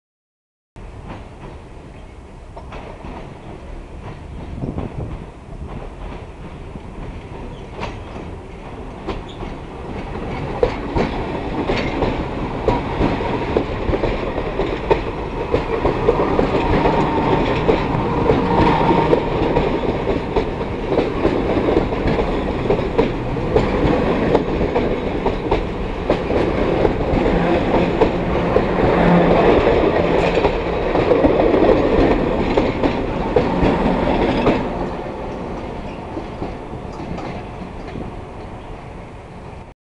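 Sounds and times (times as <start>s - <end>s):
train wheels clacking over rail joints: 0.8s - 38.6s.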